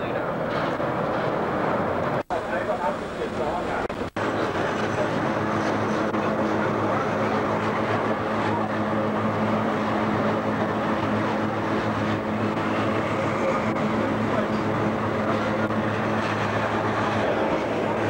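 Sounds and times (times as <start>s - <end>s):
railway car running: 0.0s - 18.0s.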